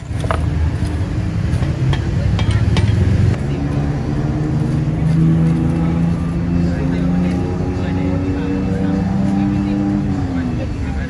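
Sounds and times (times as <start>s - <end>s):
road traffic: 0.0s - 11.0s
vehicle engine running: 0.0s - 11.0s.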